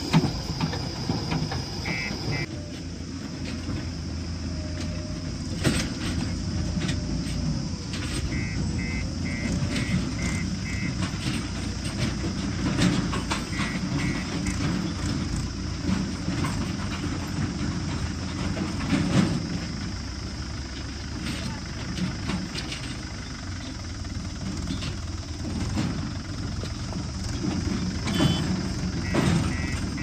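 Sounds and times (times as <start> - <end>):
clanks and knocks: 0.0 - 2.6, 4.8 - 20.0, 20.7 - 30.0
diesel machinery engine running: 0.0 - 30.0.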